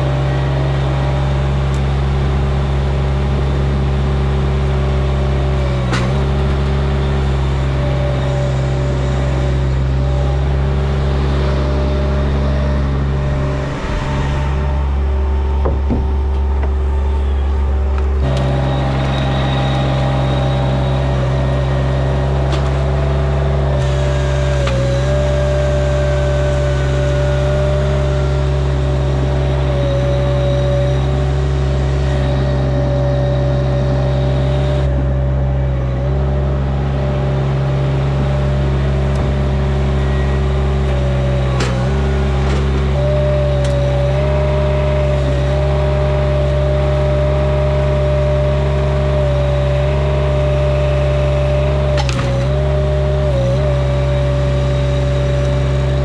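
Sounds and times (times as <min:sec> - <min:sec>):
engine running at high speed: 0:00.0 - 0:56.0.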